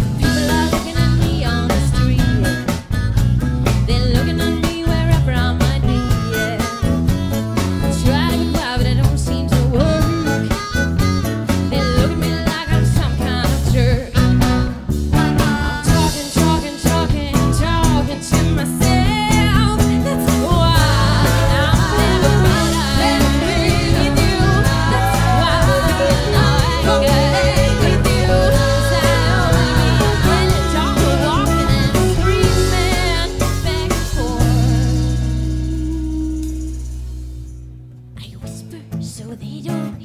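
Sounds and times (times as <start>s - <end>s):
woman singing: 0.0s - 3.0s, 3.8s - 6.9s, 7.6s - 36.9s, 38.2s - 40.0s
keyboard: 0.0s - 38.2s
bass guitar: 0.0s - 40.0s
drums: 0.0s - 40.0s
electric and acoustic guitars: 0.0s - 40.0s.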